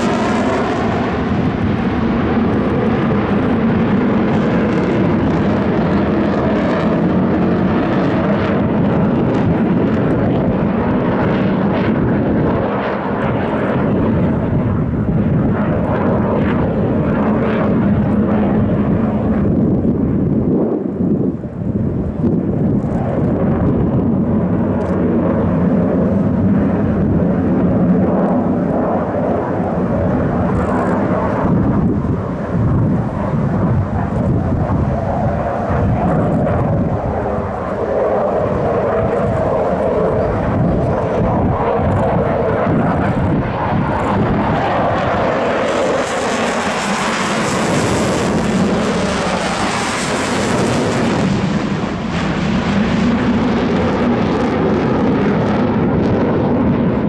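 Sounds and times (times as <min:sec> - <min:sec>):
airplane engine: 0:00.0 - 0:57.0.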